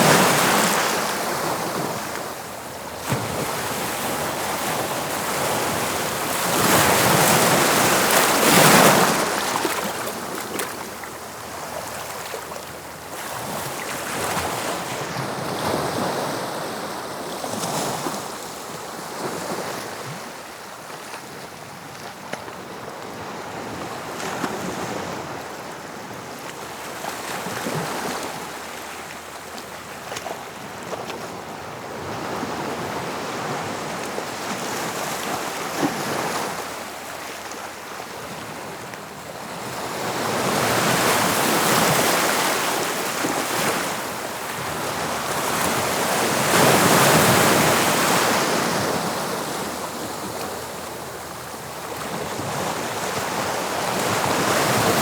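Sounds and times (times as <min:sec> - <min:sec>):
sea waves breaking on a beach: 0:00.0 - 0:55.0.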